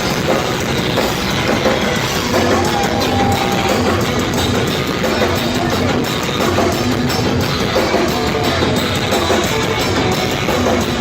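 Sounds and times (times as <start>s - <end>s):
punk rock band playing live: 0.0s - 11.0s.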